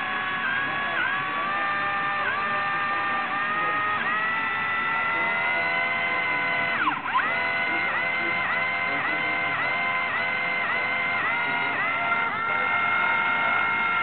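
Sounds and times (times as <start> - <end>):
toy helicopter rotor whining: 0.0 - 14.0.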